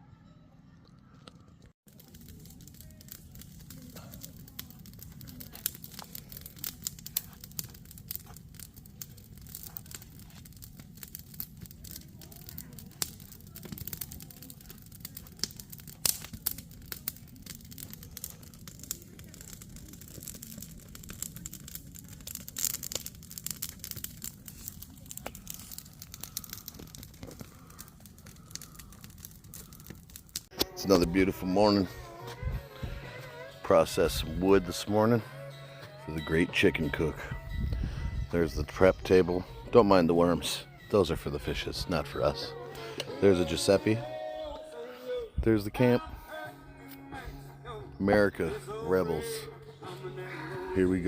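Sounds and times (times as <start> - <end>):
campfire crackling and popping: 0.9 - 51.0.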